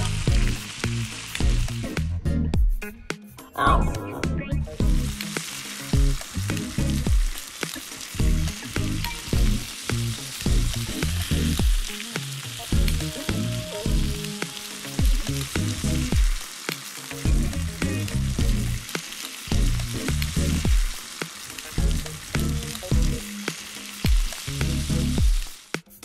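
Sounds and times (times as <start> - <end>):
beef sizzling in frying pan: 0.0 - 2.9, 4.5 - 26.0
background music with low beat: 0.0 - 16.5, 17.3 - 26.0.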